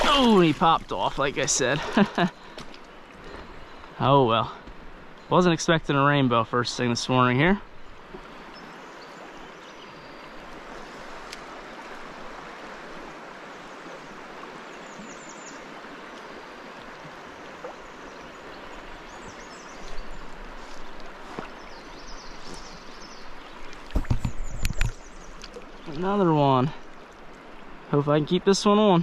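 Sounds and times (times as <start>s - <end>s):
river flowing over stones: 0.0s - 29.0s.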